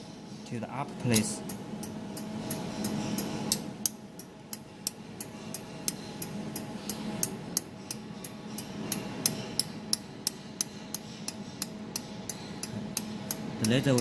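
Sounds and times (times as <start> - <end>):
machine low hum: 0.0 - 14.0
laser welder pulse ticks: 1.5 - 14.0.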